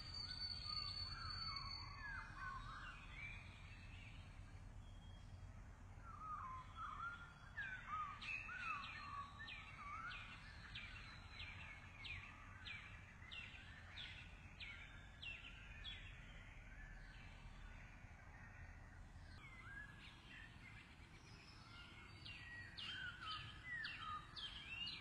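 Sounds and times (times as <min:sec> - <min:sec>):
faint low rumble: 0:00.0 - 0:07.8, 0:08.8 - 0:23.1.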